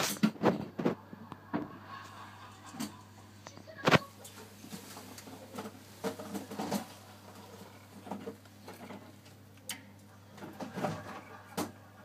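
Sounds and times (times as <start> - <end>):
gas boiler humming: 0.0 - 12.0.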